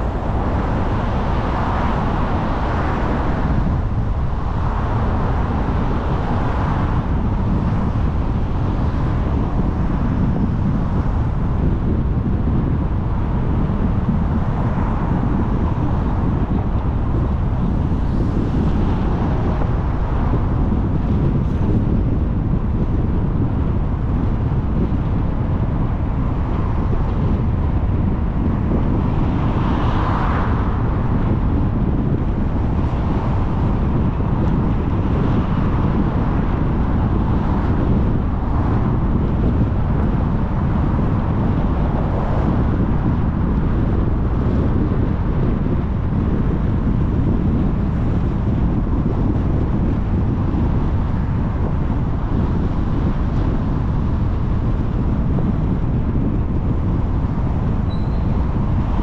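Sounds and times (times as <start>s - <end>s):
passing traffic: 0.0s - 59.0s
tyre and road noise: 0.0s - 59.0s
wind rush on microphone: 0.0s - 59.0s.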